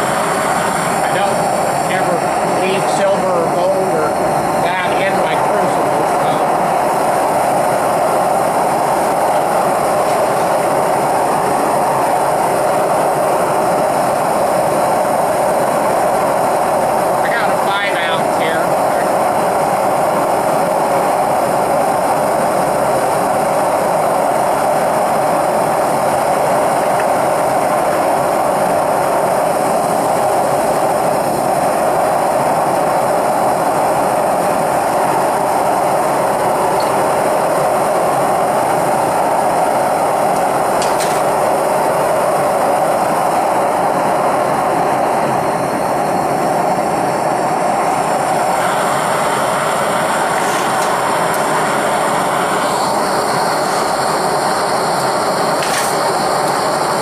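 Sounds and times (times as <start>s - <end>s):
propane torch roaring: 0.0s - 57.0s.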